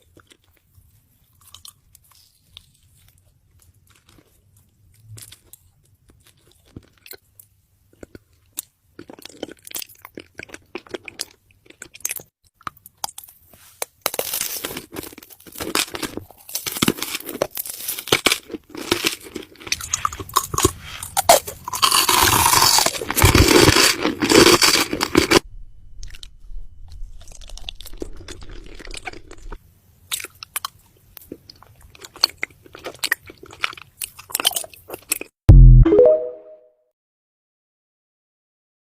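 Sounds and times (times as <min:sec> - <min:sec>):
chewing and crunching food: 0:00.0 - 0:35.4.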